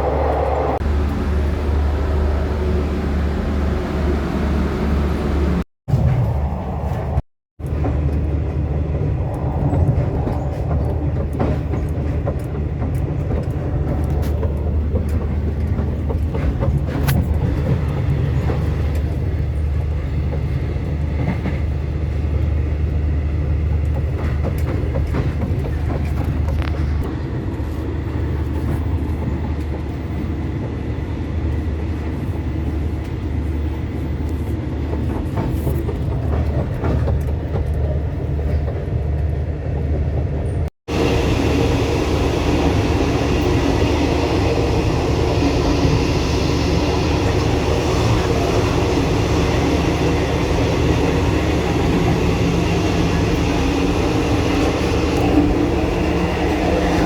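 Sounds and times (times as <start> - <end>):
train carriage rumbling: 0.0 - 57.0.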